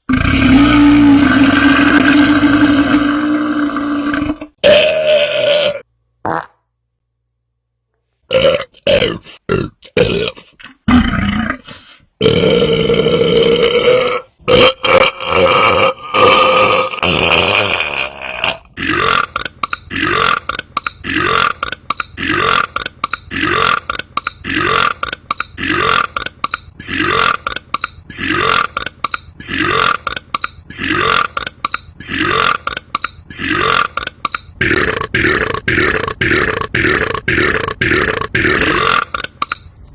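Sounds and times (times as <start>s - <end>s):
man belching: 0.0s - 6.5s, 8.3s - 11.6s, 12.2s - 39.6s.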